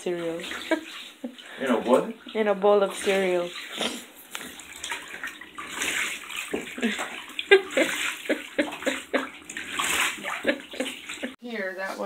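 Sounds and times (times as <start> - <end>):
water beads squelching in a bathtub: 0.1 - 11.4.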